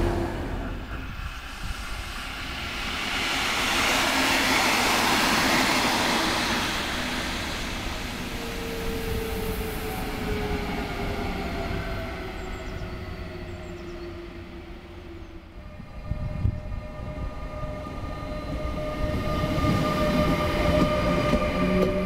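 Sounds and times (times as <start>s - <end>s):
electric locomotive whine: 0.0s - 22.0s
train coaches rolling past: 0.0s - 22.0s.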